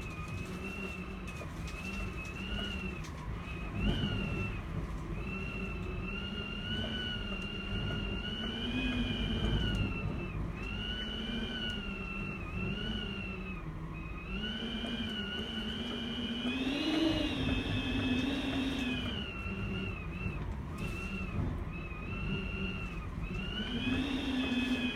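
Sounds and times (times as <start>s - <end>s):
gale whistling and howling: 0.0s - 24.9s.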